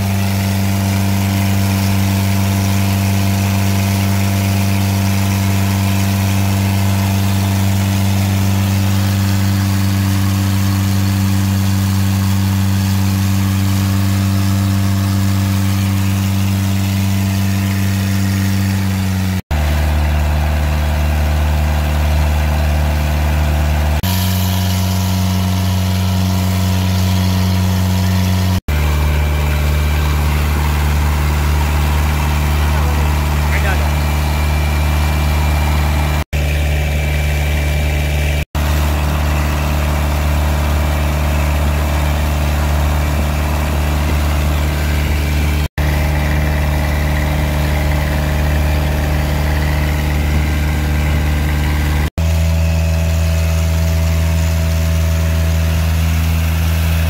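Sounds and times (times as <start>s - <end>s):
motorboat engine drone: 0.0s - 57.0s.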